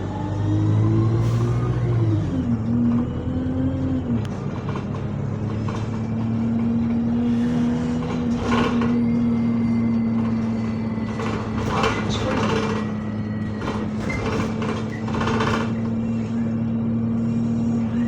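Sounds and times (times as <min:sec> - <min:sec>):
bus engine hum from inside: 0:00.0 - 0:18.0.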